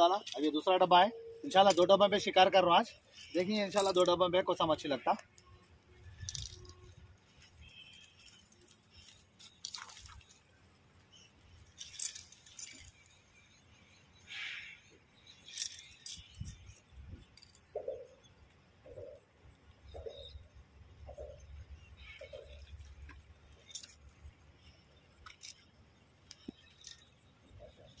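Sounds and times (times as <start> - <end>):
fishing line clicks and rustles: 0.0 - 19.2, 21.1 - 28.0.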